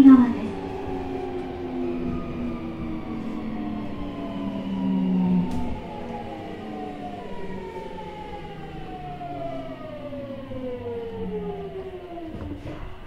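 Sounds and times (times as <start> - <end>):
train motors whining: 0.0 - 13.0
train running gear rumble: 0.0 - 13.0.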